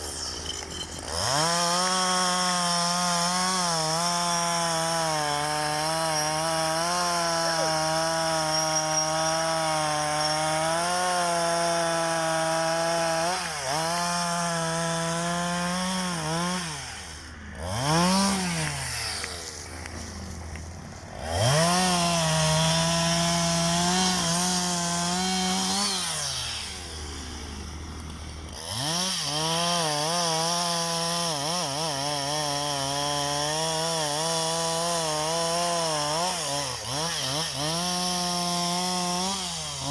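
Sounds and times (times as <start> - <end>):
engine revving: 0.5 - 39.9.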